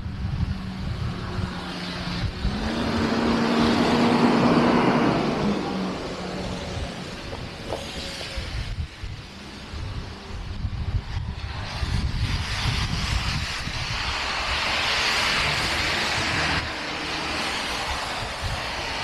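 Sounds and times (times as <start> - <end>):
low choppy rumble: 0.0 - 19.0
rushing hiss: 1.6 - 19.0.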